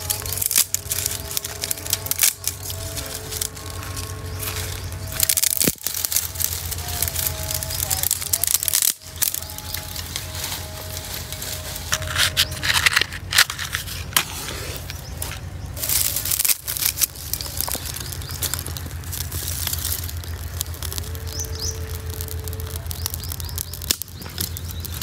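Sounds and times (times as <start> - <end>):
dry grass crunching and snapping: 0.0 - 25.0
kindling fire crackling: 0.0 - 25.0.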